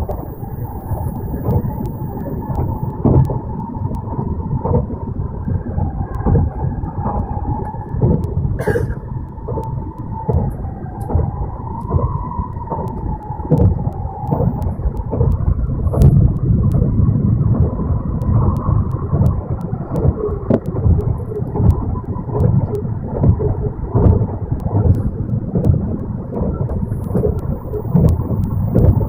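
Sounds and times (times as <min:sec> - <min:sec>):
wavering whine: 0:00.0 - 0:29.0.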